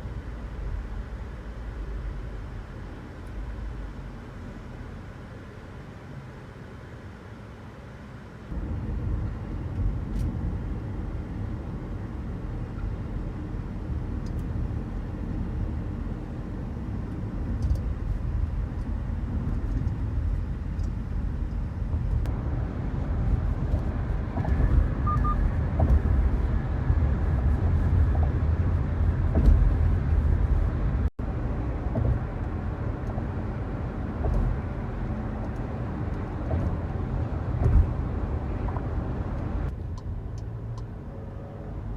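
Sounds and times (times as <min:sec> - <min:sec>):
car cabin road noise: 0:00.0 - 0:41.9.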